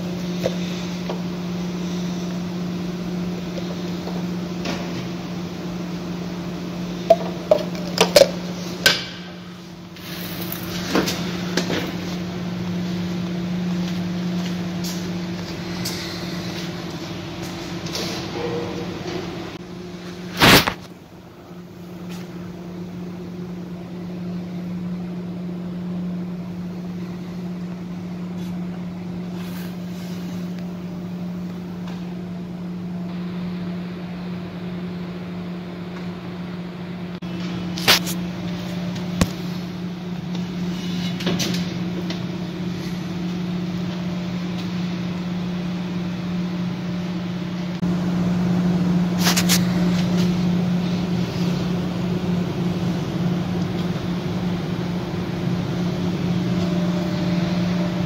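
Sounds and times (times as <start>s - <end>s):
steady low machine hum: 0.0s - 58.0s.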